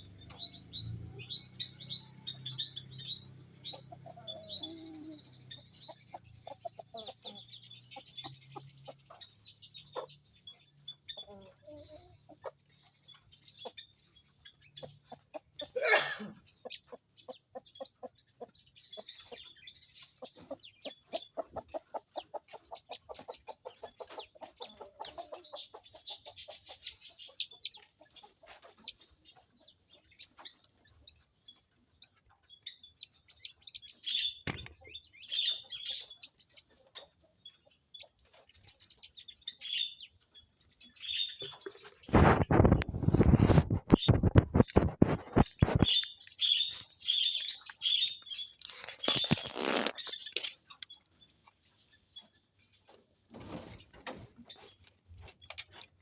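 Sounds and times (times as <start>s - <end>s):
birds chirping and clucking: 0.0s - 56.0s.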